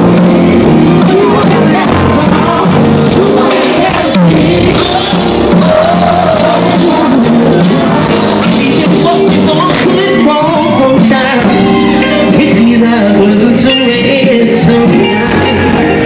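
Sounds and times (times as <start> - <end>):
drums: 0.0 - 16.0
electric guitar: 0.0 - 16.0
man singing into microphone: 0.0 - 16.0.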